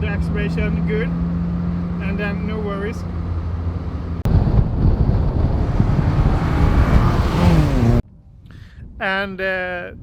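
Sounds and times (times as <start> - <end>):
car engine running hard: 0.0 - 8.0
wind and road noise: 0.0 - 10.0.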